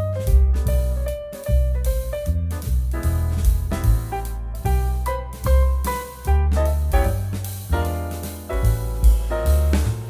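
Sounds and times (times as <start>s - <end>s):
instrumental music with bass and drums: 0.0s - 10.0s.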